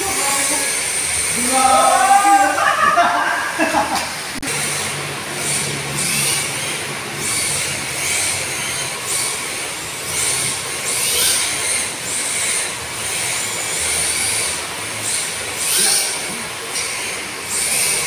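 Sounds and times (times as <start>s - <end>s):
electric motors whining: 0.0s - 18.0s
tyres hissing on tile: 0.0s - 18.0s.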